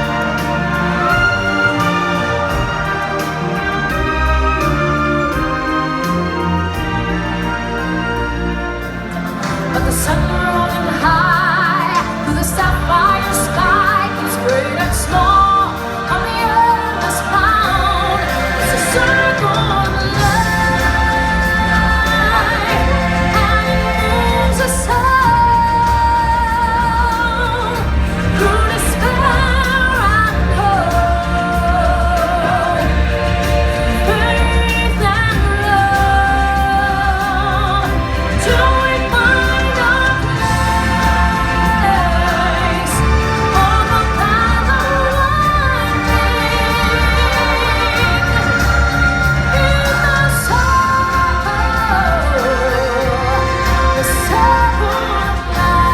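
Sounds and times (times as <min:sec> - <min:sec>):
bass: 0:00.0 - 0:55.9
person singing with vibrato: 0:00.0 - 0:55.9.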